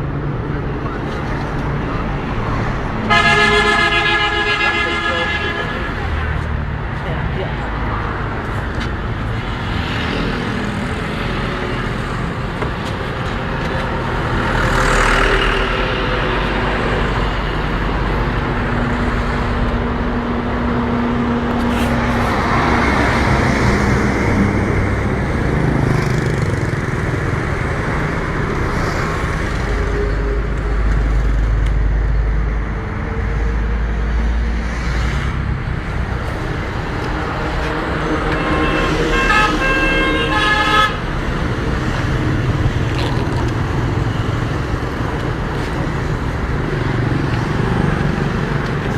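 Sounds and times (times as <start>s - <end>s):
road traffic noise: 0.0s - 48.9s.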